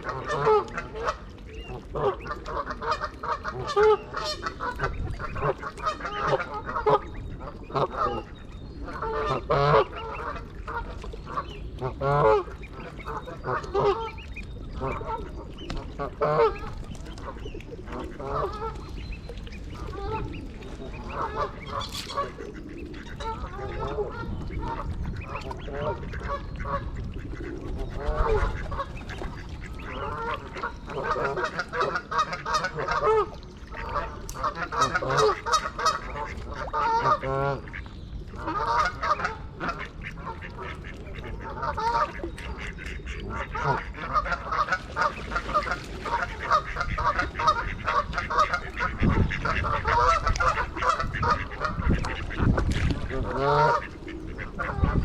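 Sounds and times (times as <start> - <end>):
geese honking: 0.0 - 19.0, 19.7 - 37.8, 38.4 - 55.0.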